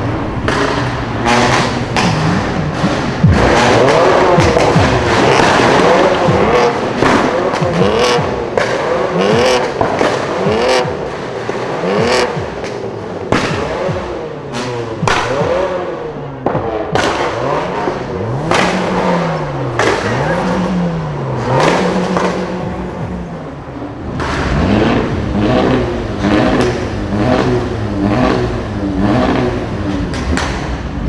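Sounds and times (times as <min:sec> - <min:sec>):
car engine revving: 0:00.0 - 0:31.0
exhaust pops and bangs: 0:00.0 - 0:31.0.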